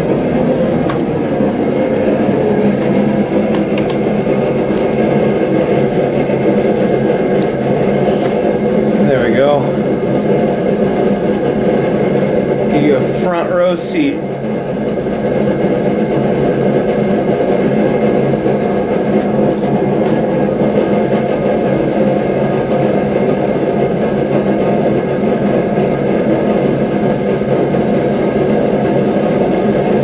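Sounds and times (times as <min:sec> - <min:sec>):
forge roaring: 0:00.0 - 0:29.4.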